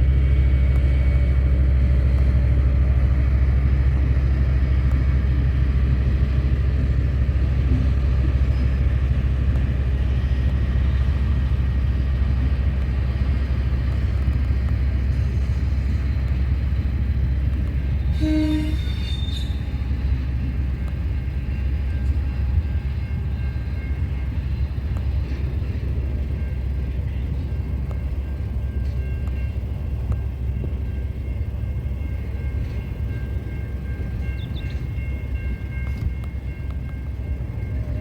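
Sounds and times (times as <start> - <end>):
freight train rumbling: 0.0 - 38.0.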